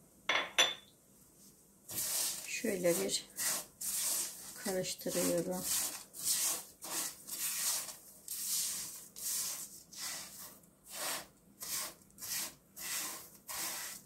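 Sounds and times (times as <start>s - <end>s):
spatula scraping a frying pan: 1.9s - 14.0s.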